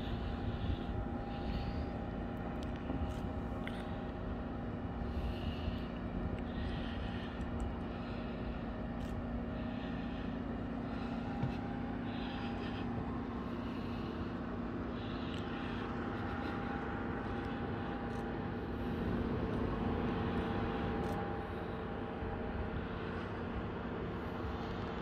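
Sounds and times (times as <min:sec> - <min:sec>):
constant machine hum: 0:00.0 - 0:25.0
low city rumble: 0:00.0 - 0:25.0.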